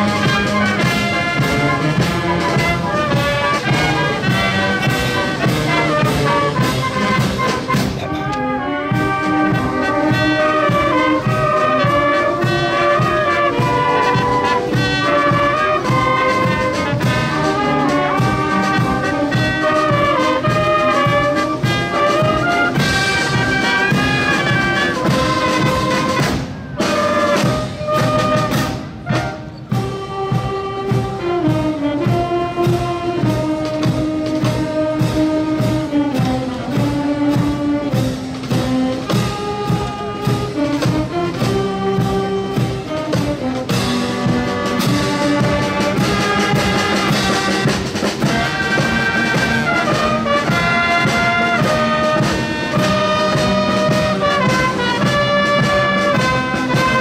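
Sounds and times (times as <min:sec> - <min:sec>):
wind band playing a tune: 0:00.0 - 0:57.0.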